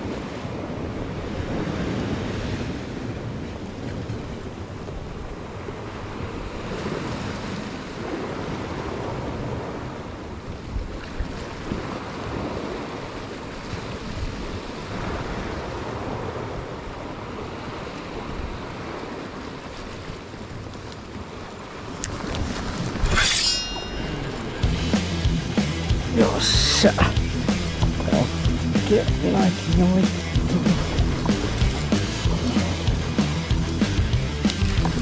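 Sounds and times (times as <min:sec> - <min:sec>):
waves washing on rocky shore: 0:00.0 - 0:35.0.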